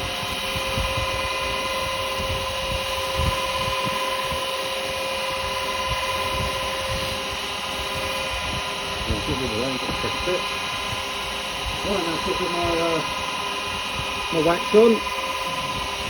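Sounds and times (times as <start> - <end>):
wood lathe motor whine: 0.0 - 16.0.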